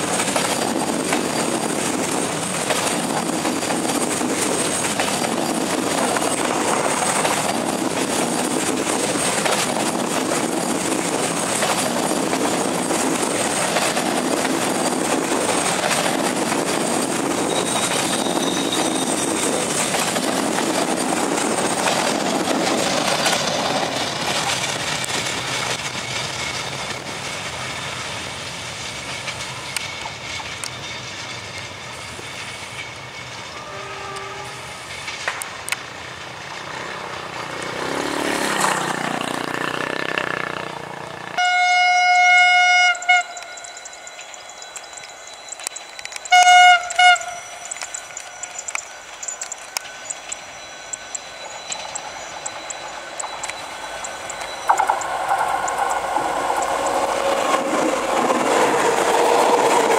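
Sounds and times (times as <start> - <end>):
another train approaching: 0.0 - 59.9
train wheels rumbling on rails: 0.0 - 59.9.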